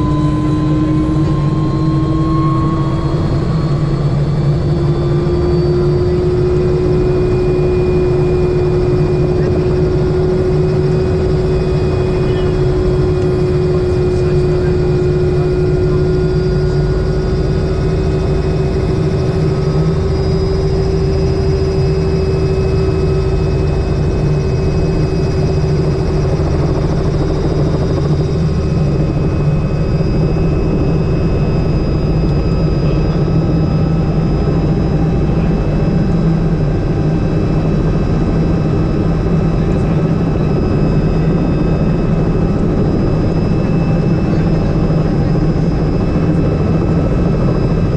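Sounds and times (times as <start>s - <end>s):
constant whine: 0.0s - 47.9s
helicopter engine and rotor: 0.0s - 47.9s.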